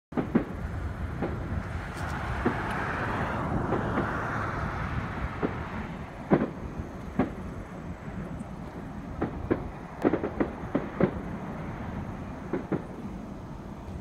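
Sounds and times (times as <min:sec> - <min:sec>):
distant fireworks popping: 0:00.1 - 0:14.0
steady rushing noise: 0:00.1 - 0:14.0.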